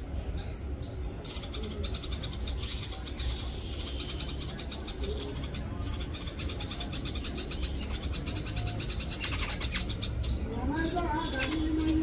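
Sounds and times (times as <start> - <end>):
birds chattering harshly: 0.0 - 12.0.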